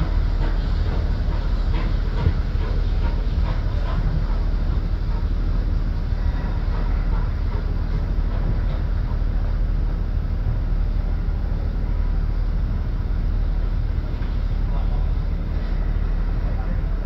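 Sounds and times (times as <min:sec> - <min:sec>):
steam locomotive low rumble: 0:00.0 - 0:17.0.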